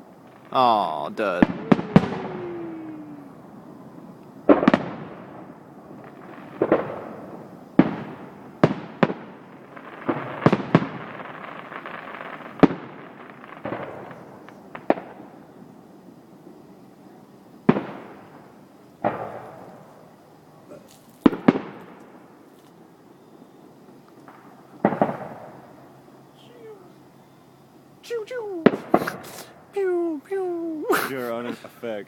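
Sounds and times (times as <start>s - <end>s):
fireworks bangs: 0.0s - 27.4s, 28.0s - 32.0s.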